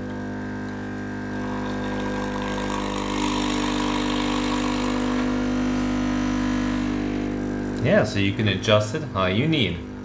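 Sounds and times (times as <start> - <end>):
espresso machine pump buzzing: 0.0 - 10.0.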